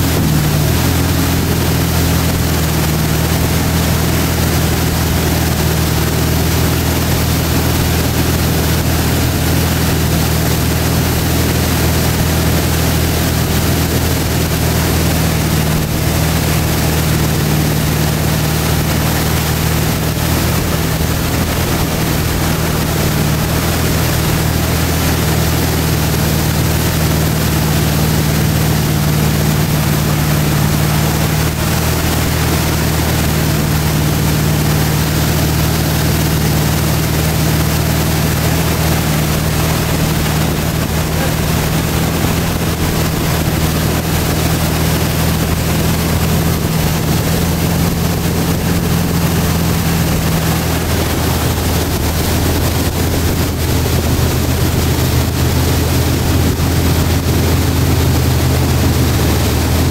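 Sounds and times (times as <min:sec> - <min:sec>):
boat engine running: 0:00.0 - 0:59.9
water rushing from hull: 0:00.0 - 0:59.9.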